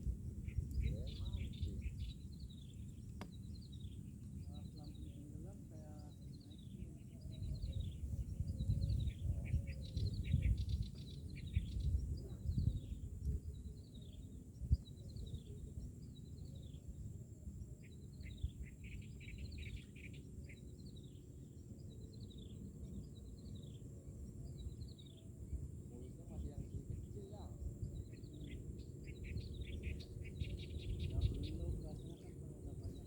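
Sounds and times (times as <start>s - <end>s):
steady low rumble: 0.0s - 19.9s, 21.0s - 33.0s
small birds chirping: 0.0s - 33.0s.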